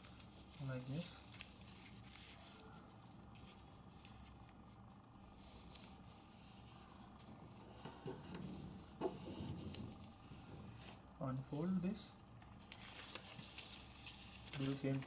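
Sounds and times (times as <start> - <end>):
paper rustling while folded: 0.0 - 15.0.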